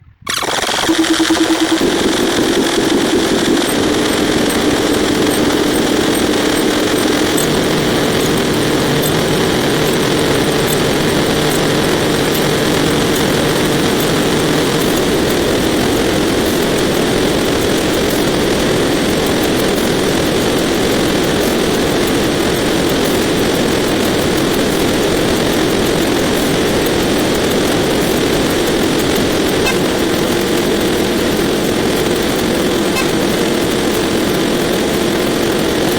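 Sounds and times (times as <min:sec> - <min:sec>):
humming drone: 0:00.2 - 0:35.9
faint rapid ticking: 0:00.3 - 0:35.9.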